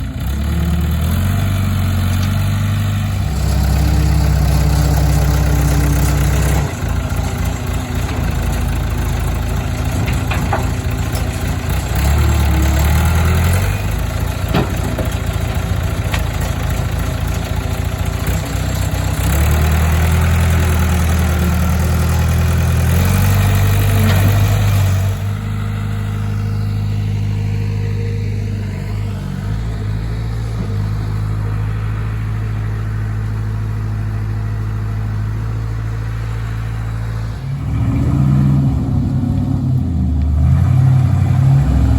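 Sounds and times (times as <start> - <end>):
truck engine driving: 0.0 - 41.9.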